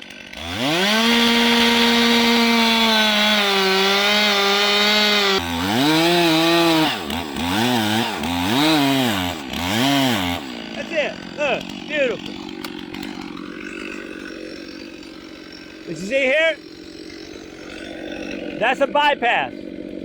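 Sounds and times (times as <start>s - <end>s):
chainsaw cutting wood: 0.0s - 20.0s
chainsaw revving: 0.0s - 20.0s.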